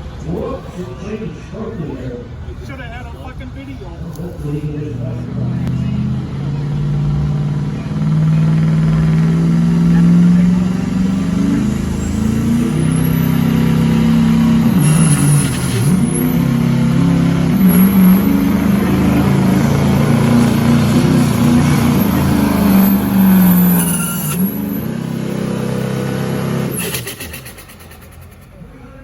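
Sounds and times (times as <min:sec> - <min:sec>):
diesel truck engine at full throttle: 0:00.0 - 0:29.0
turbocharger whistling: 0:00.0 - 0:29.0.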